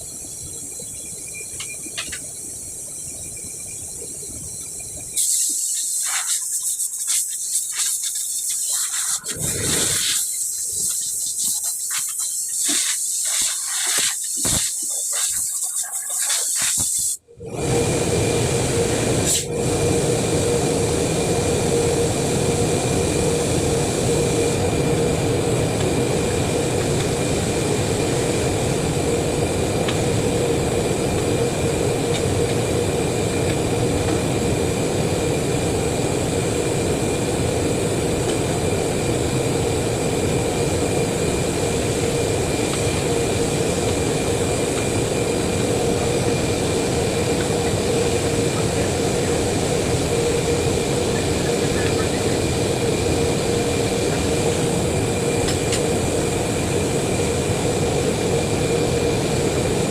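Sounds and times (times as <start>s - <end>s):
machine droning with whine: 0.0s - 59.9s.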